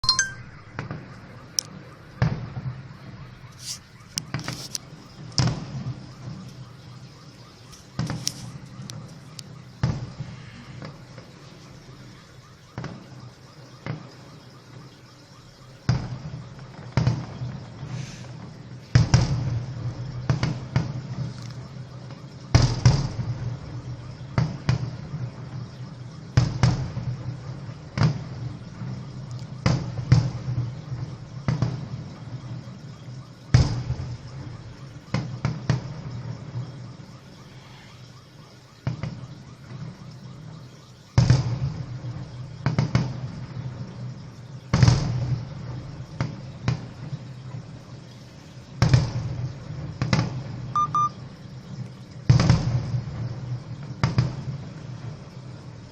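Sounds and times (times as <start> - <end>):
heavy firework booms: 2.1 - 3.5, 4.2 - 8.3, 9.0 - 14.8, 15.6 - 48.0, 48.6 - 55.9.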